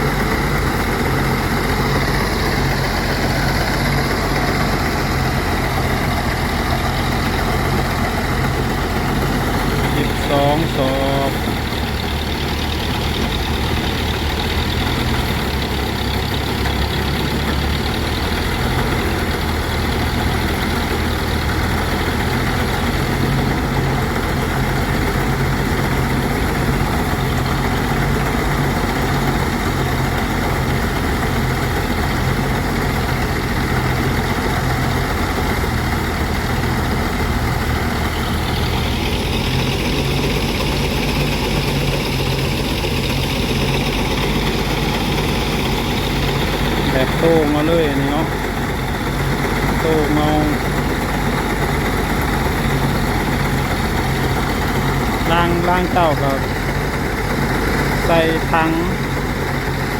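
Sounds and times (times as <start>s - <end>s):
threshing machine running: 0.0s - 59.9s.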